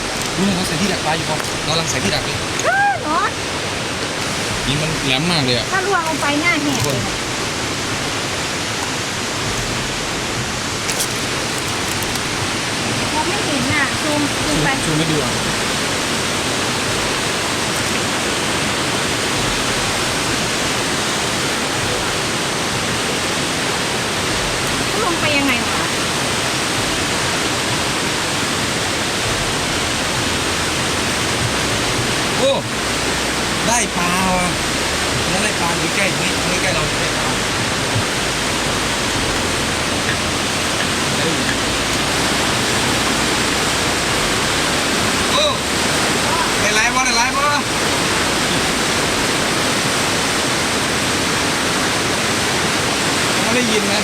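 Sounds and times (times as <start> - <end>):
waterfall rapids rushing: 0.0 - 54.0.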